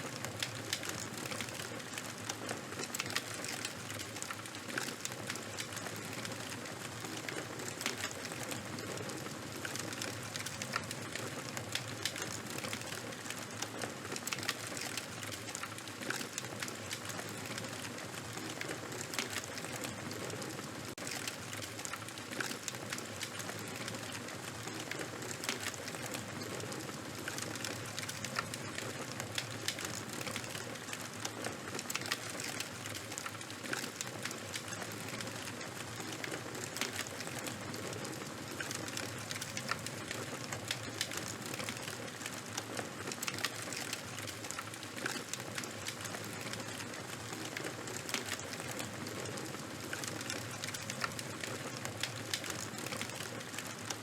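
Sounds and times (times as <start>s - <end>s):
fire popping and snapping: 0.0s - 54.0s.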